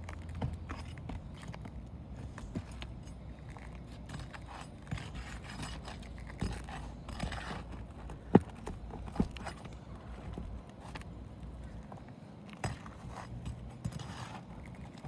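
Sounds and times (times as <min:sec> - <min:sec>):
scraping and prying roof shingles: 0:00.0 - 0:15.0.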